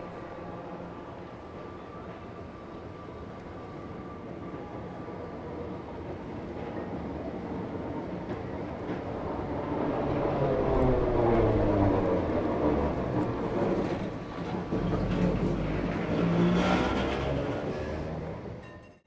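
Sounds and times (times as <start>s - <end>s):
tram motor whine: 0.0s - 18.6s
wheels rumbling on rails: 0.0s - 19.0s.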